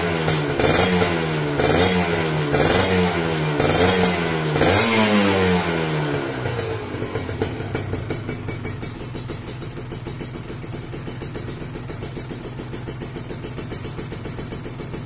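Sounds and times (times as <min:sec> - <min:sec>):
two-stroke engine idling: 0:00.0 - 0:04.8, 0:05.8 - 0:15.0.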